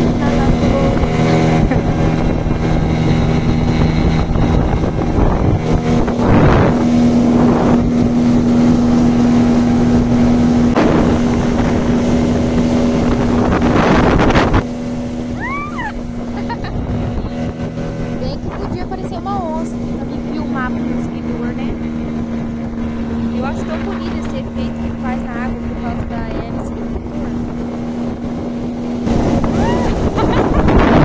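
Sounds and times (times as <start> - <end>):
outboard motor running: 0.0 - 31.0
rushing wind and water: 0.0 - 31.0
wind buffeting microphone: 0.0 - 31.0.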